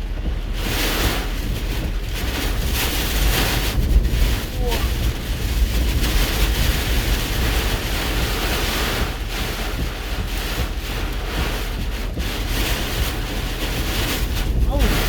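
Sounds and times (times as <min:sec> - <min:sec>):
wind roaring against vehicle: 0:00.0 - 0:15.0.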